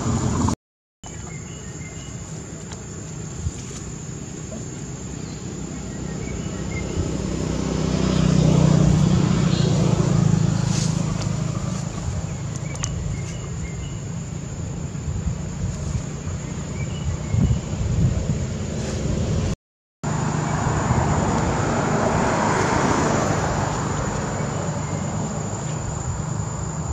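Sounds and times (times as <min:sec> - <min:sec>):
passing motor vehicle engine hum: 0:00.0 - 0:00.6, 0:01.2 - 0:26.9.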